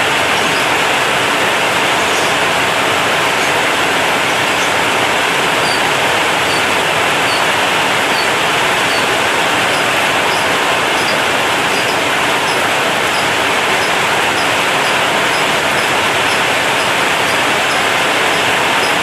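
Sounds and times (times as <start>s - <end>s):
heavy rain on a metal roof: 0.0s - 19.0s.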